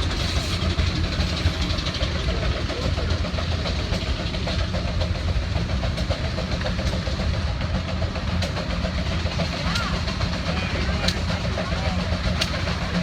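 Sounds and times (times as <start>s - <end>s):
large engine chugging: 0.0s - 13.0s.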